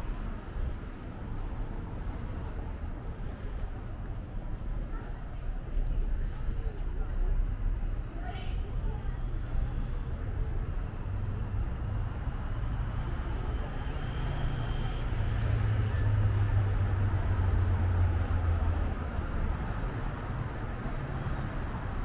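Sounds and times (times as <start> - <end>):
hiss of passing vehicles: 0.0 - 22.0
low engine rumble: 0.0 - 22.0.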